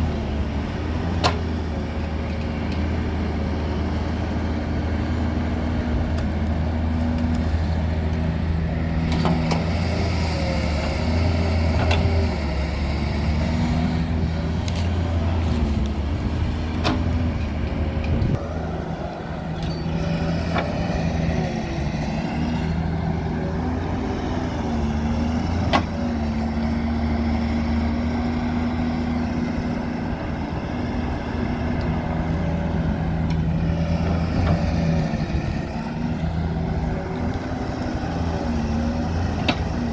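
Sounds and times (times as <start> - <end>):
diesel engine working hard: 0.0 - 39.9.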